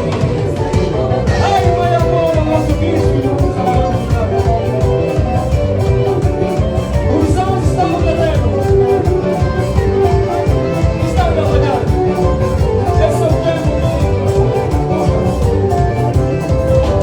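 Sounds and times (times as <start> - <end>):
live band playing dance music: 0.0 - 17.0
person singing: 0.0 - 17.0
steady drum beat: 0.0 - 17.0.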